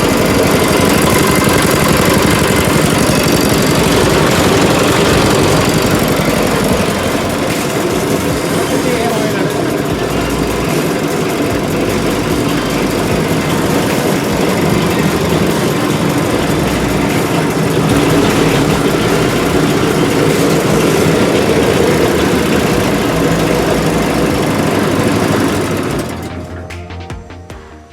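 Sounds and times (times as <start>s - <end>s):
small petrol engine running: 0.0s - 27.2s.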